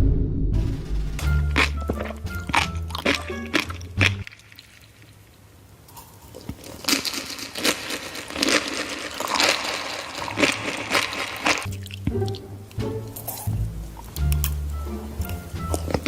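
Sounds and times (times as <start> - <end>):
food crunching and crinkling: 1.2 - 12.4, 13.1 - 16.0.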